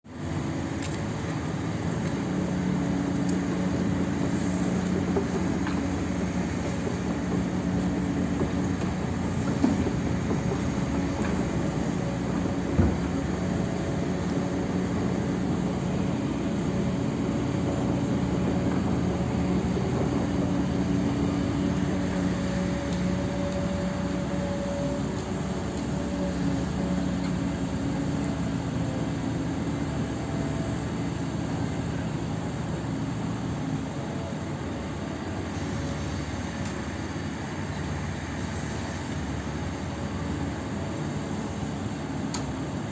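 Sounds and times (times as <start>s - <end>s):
excavator diesel engine droning: 0.1s - 42.9s.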